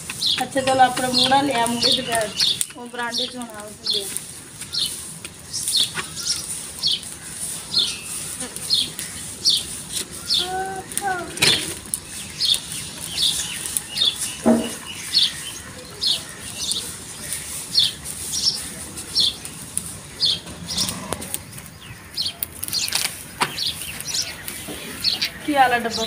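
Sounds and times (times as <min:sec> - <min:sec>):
bird chirping: 0:00.1 - 0:26.0.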